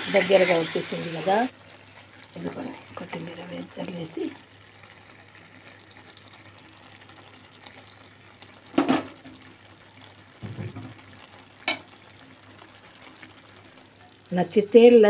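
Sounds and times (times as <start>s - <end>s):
curry bubbling: 0.0s - 15.0s.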